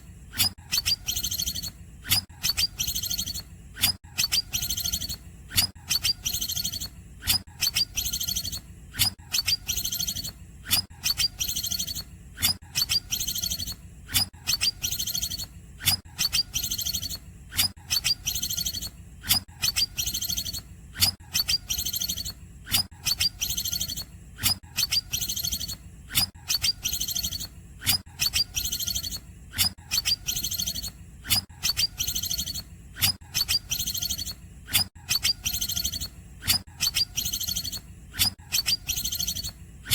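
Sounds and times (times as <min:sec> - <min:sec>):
bird singing with trills: 0:00.7 - 0:06.9, 0:07.6 - 0:08.6, 0:09.3 - 0:13.8, 0:14.5 - 0:22.4, 0:23.0 - 0:34.4, 0:35.1 - 0:39.9.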